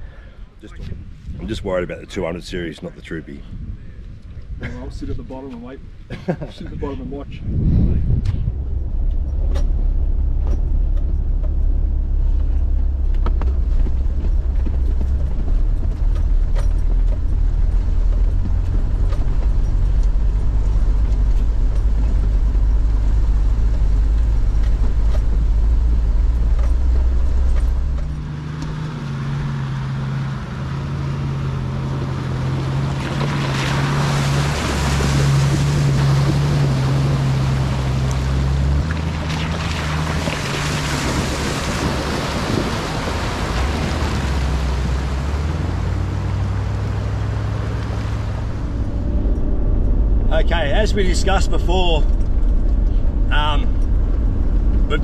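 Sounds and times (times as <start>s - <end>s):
vehicle engine and tyre rumble: 0.0s - 55.0s.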